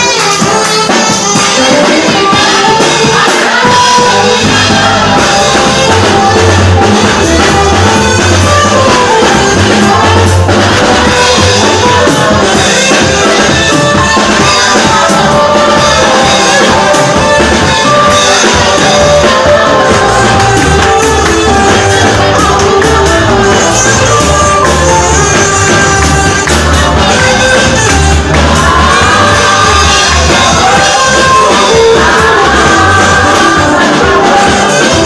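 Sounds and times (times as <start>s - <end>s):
band with drums playing: 0.0s - 35.0s
voices singing: 0.0s - 35.0s.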